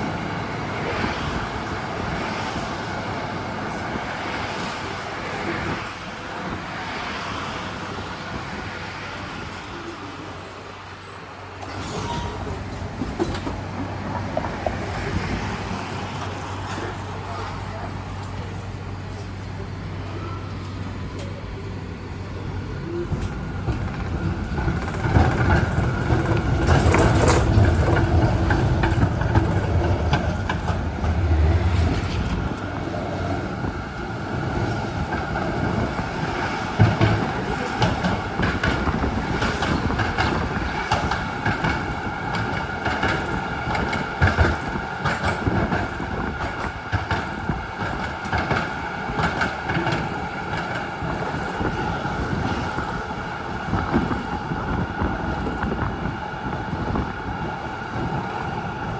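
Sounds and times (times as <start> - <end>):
tram rumble and motor tone: 0.0 - 58.9
wheels clicking over track: 0.0 - 58.9.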